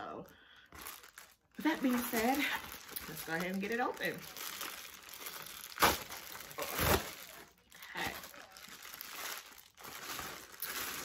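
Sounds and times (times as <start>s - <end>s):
plastic mailer bag crinkling: 0.7s - 11.0s
plastic bag ripping: 0.8s - 11.0s.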